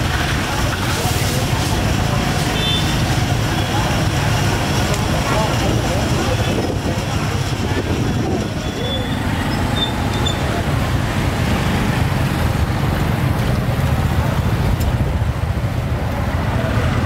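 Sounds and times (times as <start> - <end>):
scooters and cars passing: 0.0 - 17.0
street traffic rumble: 0.0 - 17.0.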